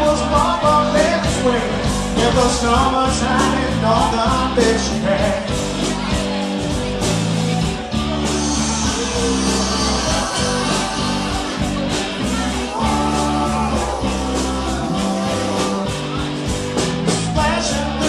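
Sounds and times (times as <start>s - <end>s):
electric guitar: 0.0s - 18.0s
live rock band playing: 0.0s - 18.0s
steady drum beat: 0.0s - 18.0s.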